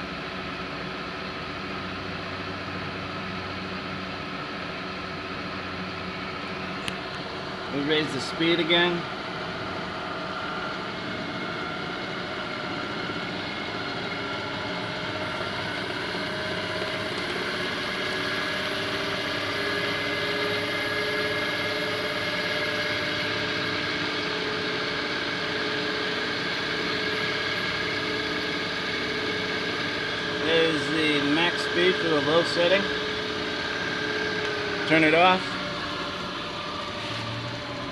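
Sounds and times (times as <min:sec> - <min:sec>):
milling machine spindle whine: 0:00.0 - 0:37.9.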